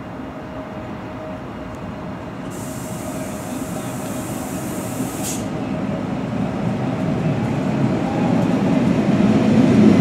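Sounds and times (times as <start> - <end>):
train rolling rumble: 0.0 - 10.0.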